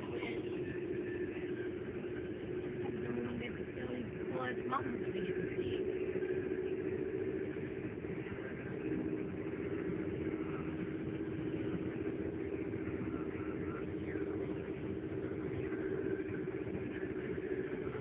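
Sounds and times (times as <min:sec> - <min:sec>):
car driving interior drone: 0:00.0 - 0:18.0.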